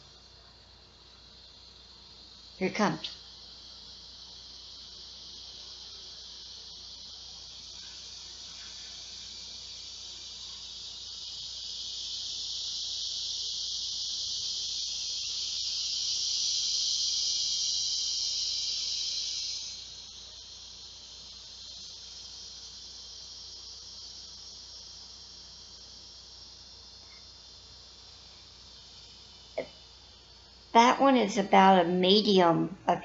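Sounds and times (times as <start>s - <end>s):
cicada shrill buzz: 0.0s - 33.0s.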